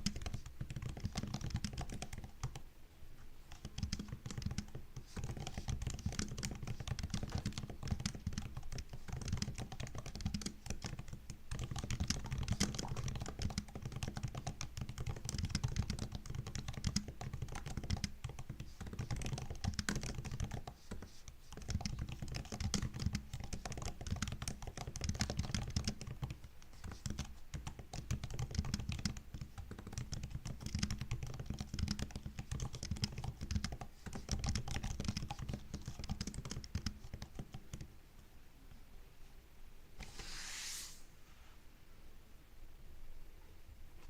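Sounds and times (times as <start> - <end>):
fast typing on laptop keyboard: 0.0 - 2.6, 3.5 - 37.9.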